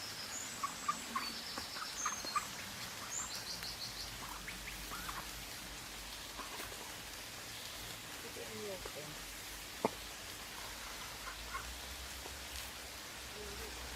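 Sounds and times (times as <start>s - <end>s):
small birds chirping: 0.0s - 13.9s
steady background hiss: 0.0s - 13.9s.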